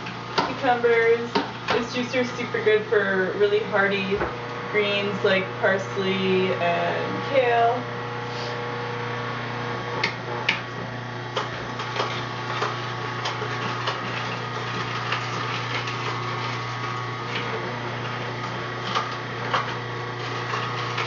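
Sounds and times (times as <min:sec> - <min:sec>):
juicer motor humming: 0:00.0 - 0:21.0.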